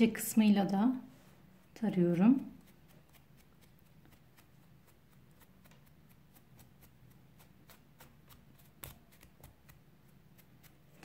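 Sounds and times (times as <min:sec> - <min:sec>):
comb scratching through cord: 0:01.6 - 0:11.0.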